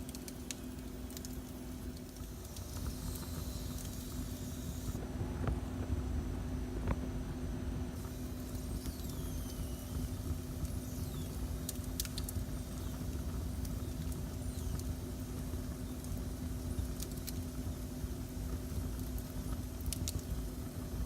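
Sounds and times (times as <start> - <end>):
wood fire crackling: 0.0 - 5.0, 8.1 - 21.0.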